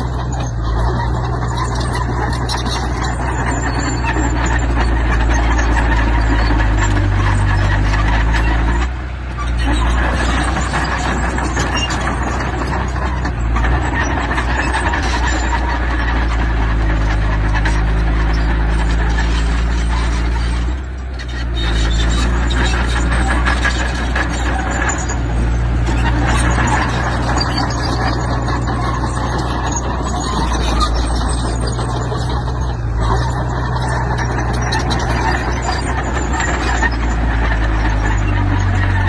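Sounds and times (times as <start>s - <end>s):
dense metallic clatter: 0.0s - 39.0s
diesel machinery engine running: 0.0s - 39.0s.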